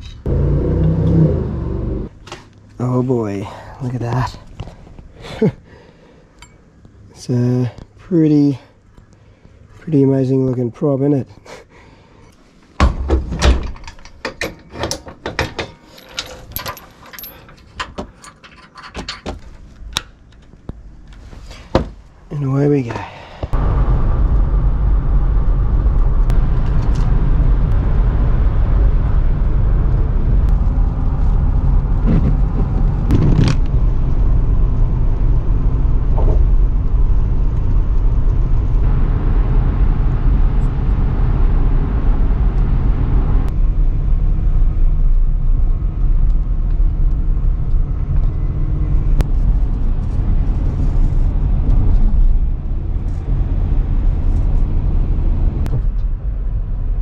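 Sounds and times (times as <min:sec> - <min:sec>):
car engine and road rumble: 0:00.0 - 0:05.2, 0:16.0 - 0:57.0.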